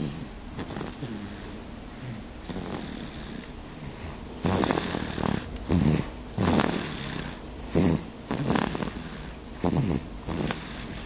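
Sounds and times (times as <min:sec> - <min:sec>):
baby snoring: 0:00.0 - 0:11.0.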